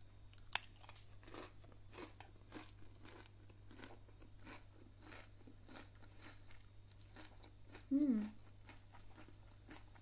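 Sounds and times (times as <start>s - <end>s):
crunchy chewing: 0.3s - 10.0s.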